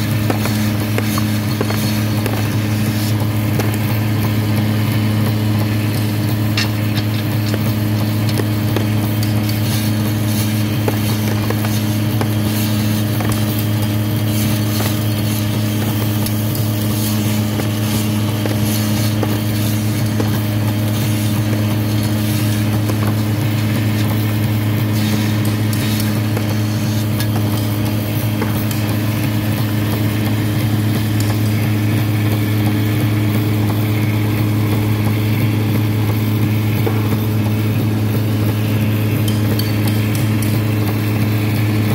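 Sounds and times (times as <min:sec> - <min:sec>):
cutting machine humming: 0:00.0 - 0:41.9.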